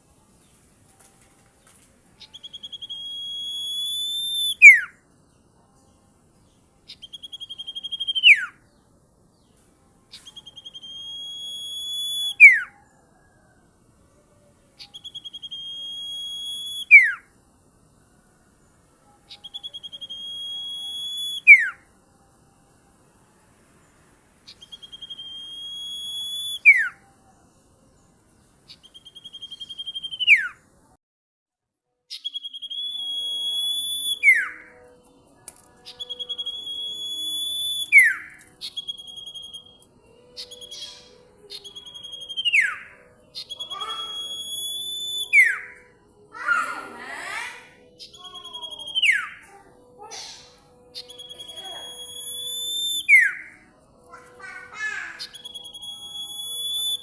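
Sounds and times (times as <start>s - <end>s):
songbird singing trills: 0.0s - 30.7s, 32.1s - 57.0s.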